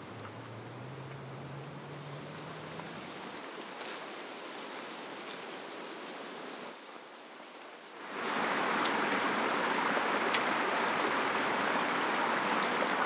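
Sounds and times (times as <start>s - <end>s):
stream running over stones: 1.0s - 13.0s.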